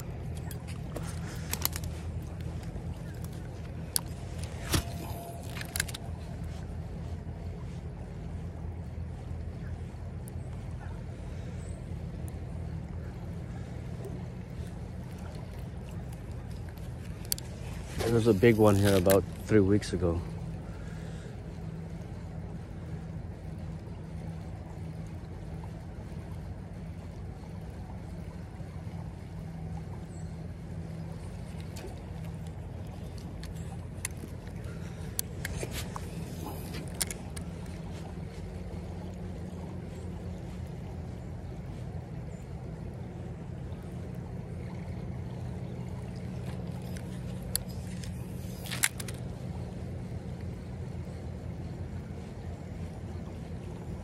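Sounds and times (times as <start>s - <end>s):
creek water flowing: 0.0s - 54.0s.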